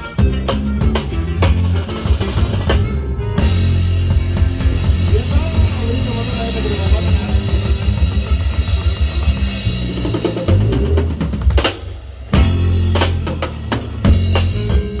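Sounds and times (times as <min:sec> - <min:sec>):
band playing polka: 0:00.0 - 0:15.0
drum kit kick and snare: 0:00.0 - 0:15.0.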